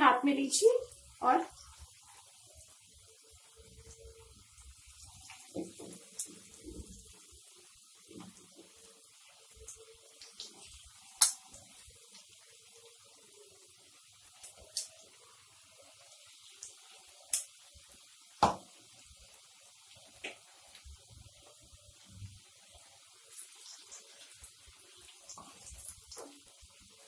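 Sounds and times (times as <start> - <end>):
batter sizzling in hot oil: 0.0 - 27.0.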